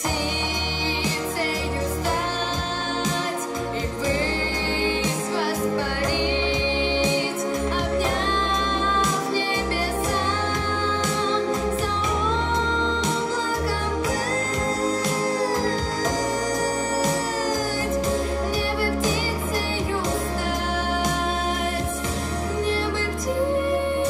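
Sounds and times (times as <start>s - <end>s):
girl singing into a microphone: 0.0s - 24.0s
instrumental accompaniment with bass: 0.0s - 24.0s.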